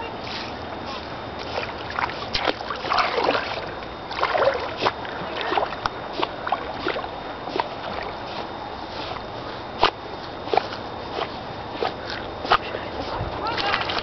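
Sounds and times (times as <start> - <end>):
water sloshing around wading legs: 0.0 - 14.0.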